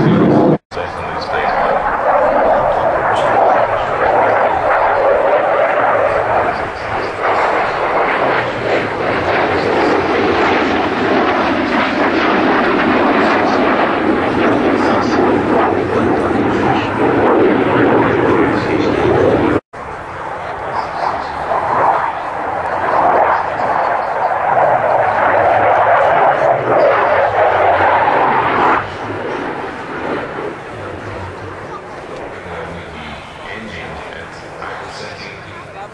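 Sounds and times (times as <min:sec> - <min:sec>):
jet engine rushing: 0:00.0 - 0:35.9.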